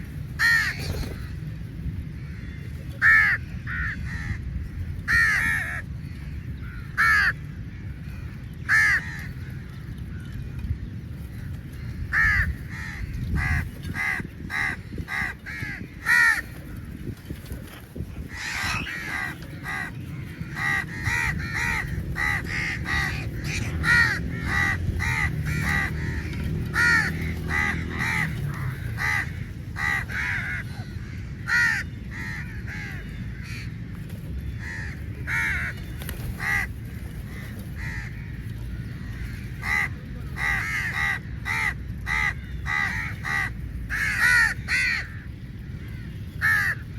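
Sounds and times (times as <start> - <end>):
crows cawing: 0.4 - 1.4, 2.2 - 9.7, 11.4 - 16.9, 18.3 - 33.8, 34.6 - 46.9.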